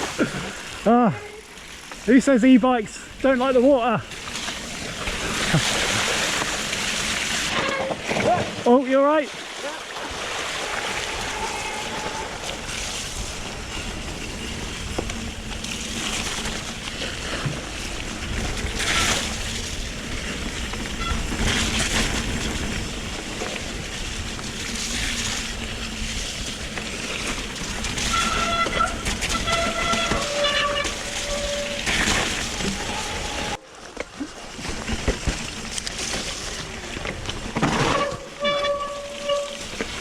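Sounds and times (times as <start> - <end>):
bike tyres splashing through mud: 1.5 - 40.0.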